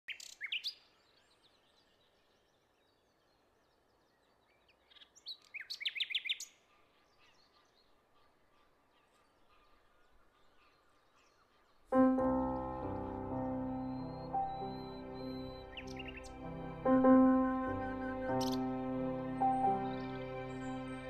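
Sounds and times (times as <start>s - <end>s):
songbirds chirping: 0.1s - 21.0s.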